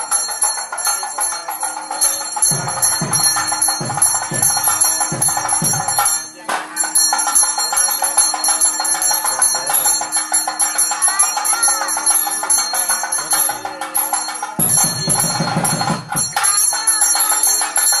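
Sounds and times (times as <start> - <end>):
hand bell ringing rapidly: 0.0 - 18.0
music: 0.0 - 18.0.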